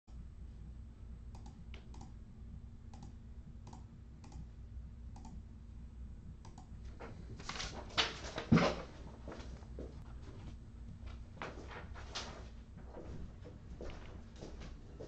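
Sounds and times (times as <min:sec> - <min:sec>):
low steady hum: 0:00.1 - 0:15.0.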